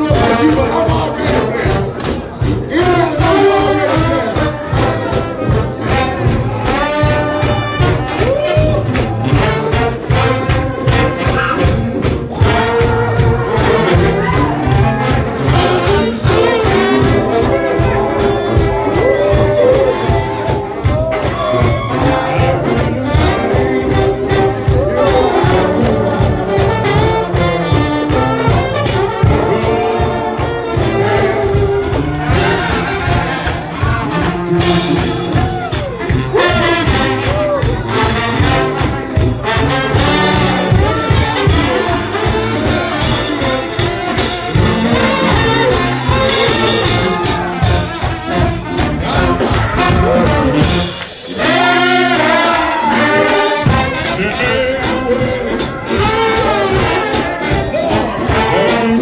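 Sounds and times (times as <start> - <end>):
brass band playing: 0.0 - 59.0
tambourine shaken and struck: 0.0 - 59.0.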